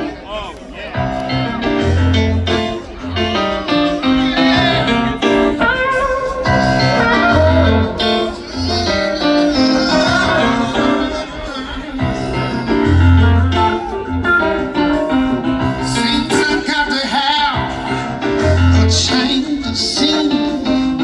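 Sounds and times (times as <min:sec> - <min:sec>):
guitar lines: 0:00.0 - 0:21.0
bass line: 0:01.0 - 0:11.3, 0:12.0 - 0:16.7, 0:17.6 - 0:21.0.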